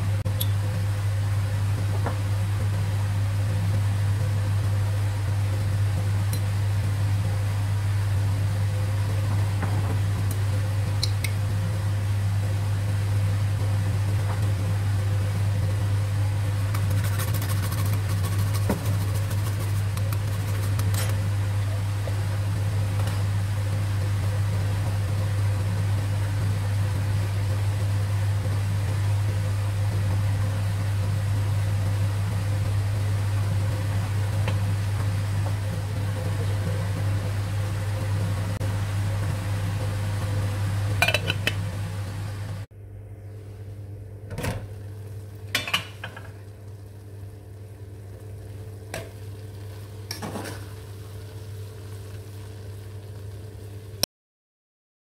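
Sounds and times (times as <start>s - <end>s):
low motor hum: 0.0s - 54.1s.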